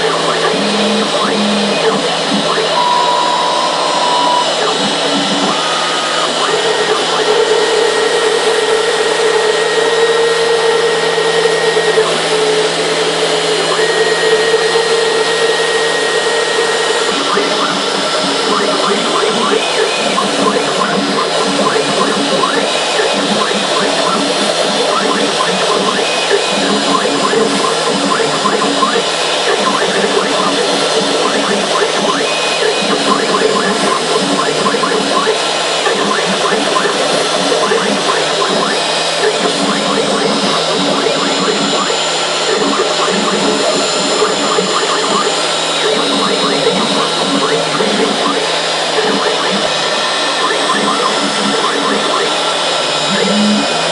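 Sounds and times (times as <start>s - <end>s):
cnc router spindle running: 0.0s - 53.9s
cutter milling foam: 0.0s - 53.9s.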